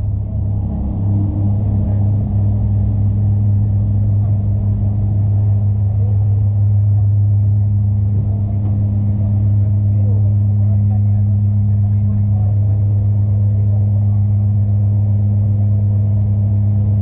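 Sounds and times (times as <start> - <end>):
rumbling noise: 0.0 - 17.0
turboprop engines droning in cabin: 0.0 - 17.0.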